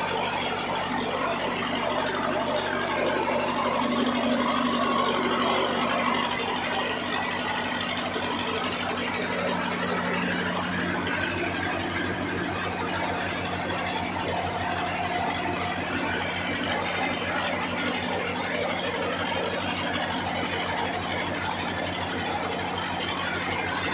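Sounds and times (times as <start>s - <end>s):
flour mill belts and pulleys: 0.0s - 23.9s
tractor diesel engine running: 0.0s - 23.9s.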